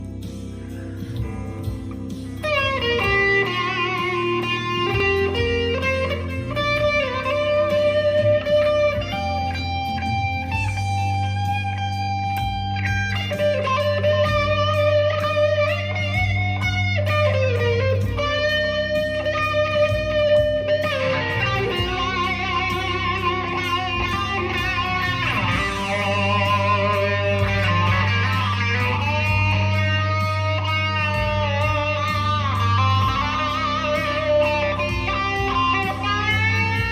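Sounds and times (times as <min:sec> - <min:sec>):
electric guitar with wah: 0:00.0 - 0:36.9.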